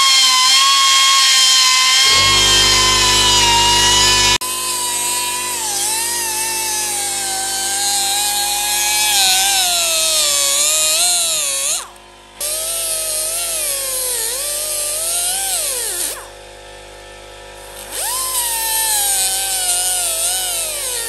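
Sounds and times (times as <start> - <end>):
die grinder cutting steel: 0.0 - 16.4, 17.6 - 21.0.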